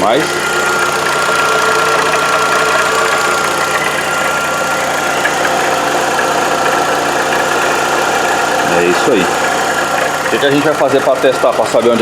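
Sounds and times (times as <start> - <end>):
car engine idling: 0.0 - 12.0
steady high tone from engine: 0.0 - 12.0.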